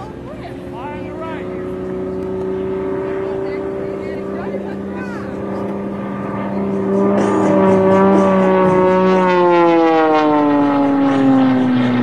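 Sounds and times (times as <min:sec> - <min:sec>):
propeller plane engine: 0:00.0 - 0:12.0.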